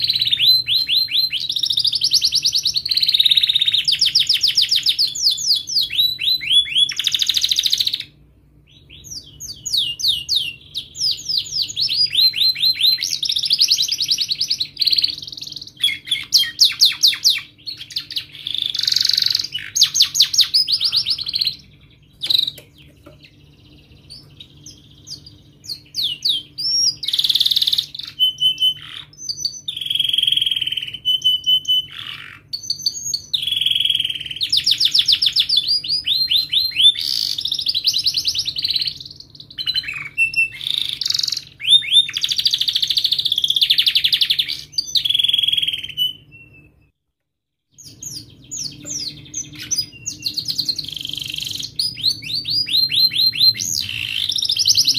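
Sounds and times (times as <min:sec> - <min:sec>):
canary singing: 0:00.0 - 0:46.9, 0:47.7 - 0:54.9.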